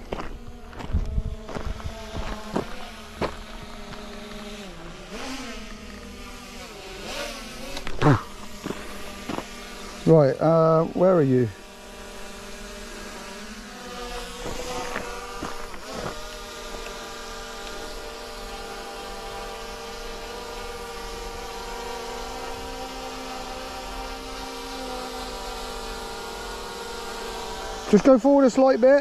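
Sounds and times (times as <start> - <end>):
drone propeller whine: 0.0 - 29.0.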